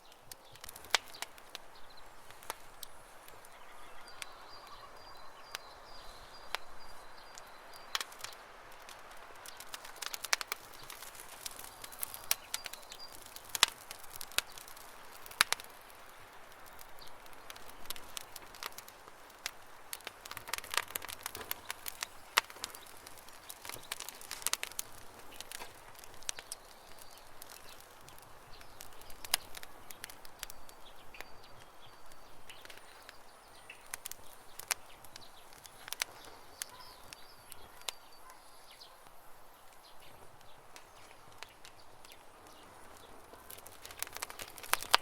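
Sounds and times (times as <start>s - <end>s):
campfire crackling and popping: 0.0s - 45.0s
small birds chirping: 0.0s - 45.0s.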